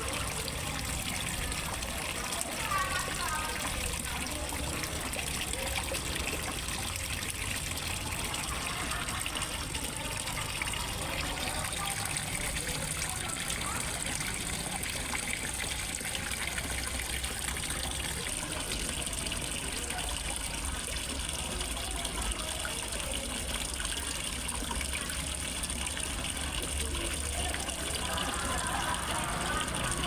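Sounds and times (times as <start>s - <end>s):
water splashing into pond: 0.0s - 30.0s.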